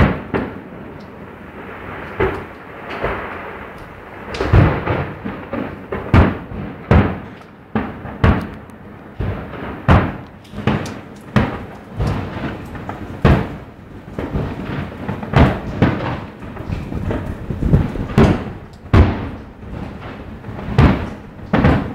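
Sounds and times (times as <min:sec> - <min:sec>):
firework shells bursting: 0:00.0 - 0:21.9.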